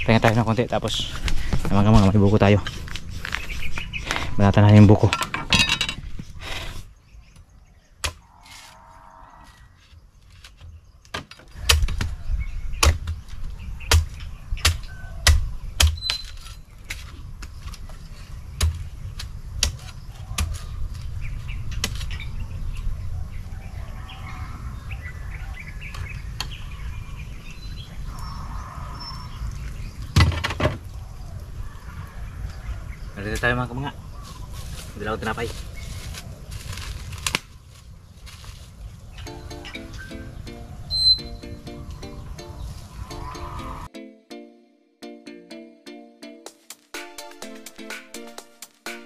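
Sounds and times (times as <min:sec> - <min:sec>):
birds chirping: 0:00.0 - 0:36.5, 0:38.8 - 0:44.6.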